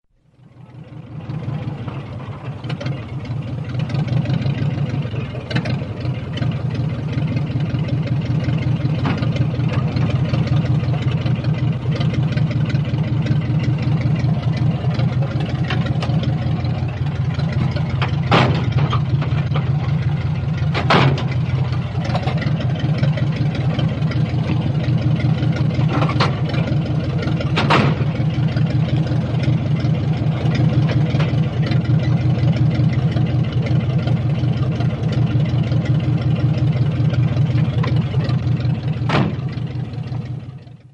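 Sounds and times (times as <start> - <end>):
old car engine idling: 0.1 - 40.9.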